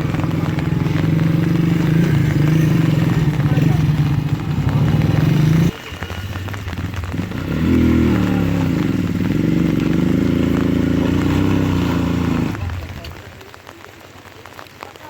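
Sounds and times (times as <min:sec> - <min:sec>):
engine revving: 0:00.0 - 0:13.2.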